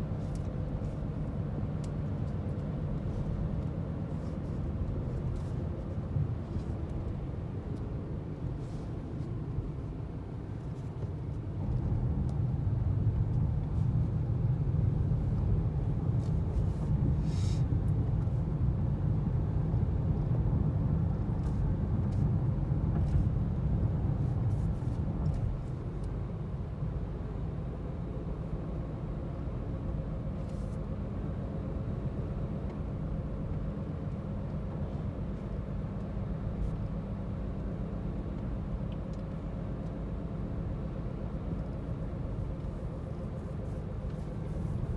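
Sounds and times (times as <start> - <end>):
moving car rumble: 0.0 - 44.9.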